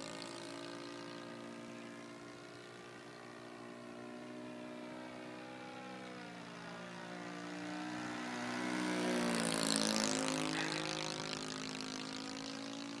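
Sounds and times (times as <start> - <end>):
model airplane engine and propeller: 0.0 - 13.0.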